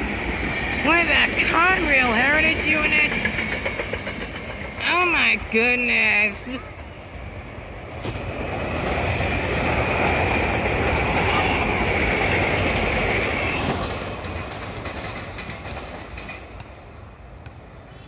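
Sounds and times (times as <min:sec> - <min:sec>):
train rumble and wheel clatter: 0:00.0 - 0:18.0.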